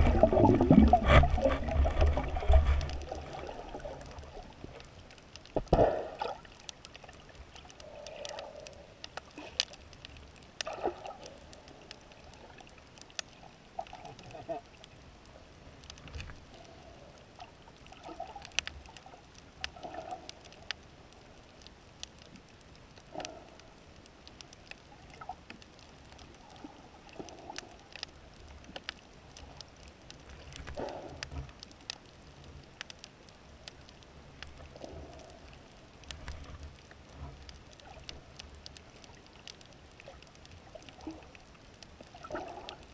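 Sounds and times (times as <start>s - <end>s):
muffled water swishes: 0.0s - 42.9s
underwater clicks and crackles: 0.0s - 42.9s.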